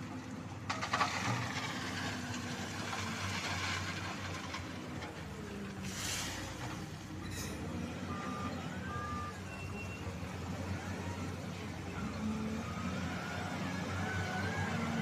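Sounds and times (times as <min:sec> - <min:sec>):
excavator diesel engines running: 0:00.0 - 0:15.0.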